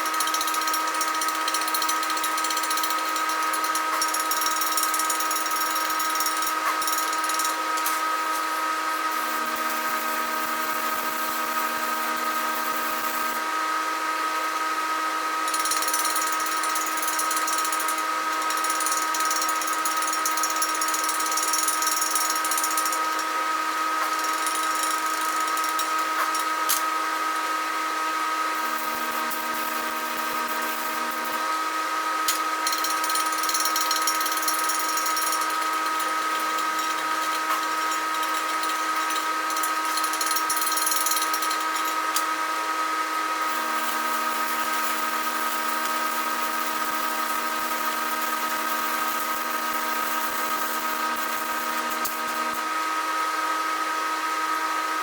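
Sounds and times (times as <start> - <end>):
electric grinder grinding metal: 0.0 - 13.6, 15.5 - 53.0.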